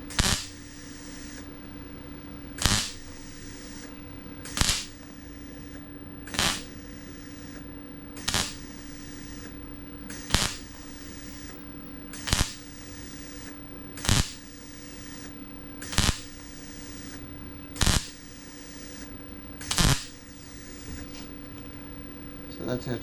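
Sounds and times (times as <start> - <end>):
welder bursts: 0.0 - 21.1
steady low hum: 0.0 - 23.0.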